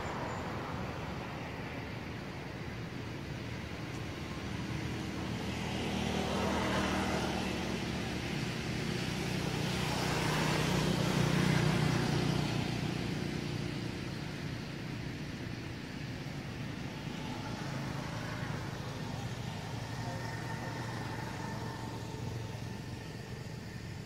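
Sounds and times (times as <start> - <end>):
vehicles passing on road: 0.0 - 24.0.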